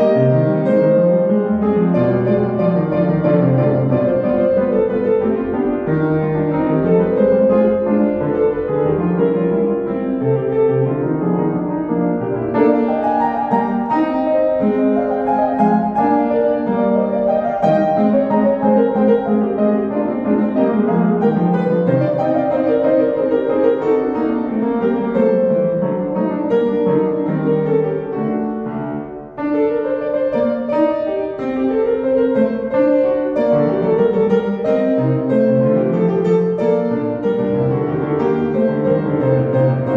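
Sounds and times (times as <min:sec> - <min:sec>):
solo piano classical piece: 0:00.0 - 0:39.9.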